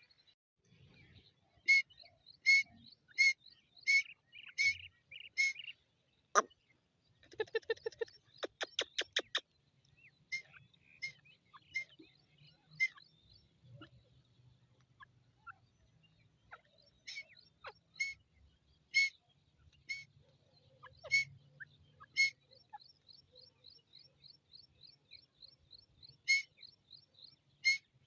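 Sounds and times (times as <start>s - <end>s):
soft bird chirps: 0.0s - 28.0s.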